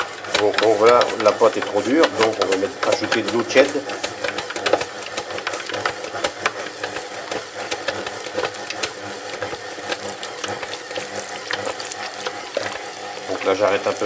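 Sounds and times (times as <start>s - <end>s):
dough hook clicks and knocks: 0.0s - 13.6s
stand mixer motor hum: 0.0s - 14.0s.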